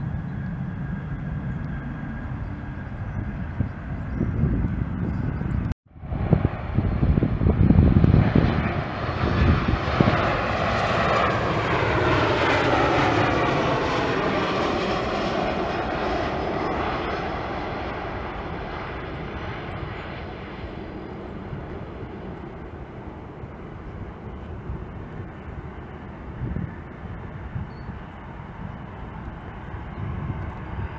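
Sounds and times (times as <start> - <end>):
jet engine roar: 0.0 - 30.9
jet engine whine falling in pitch: 0.0 - 30.9.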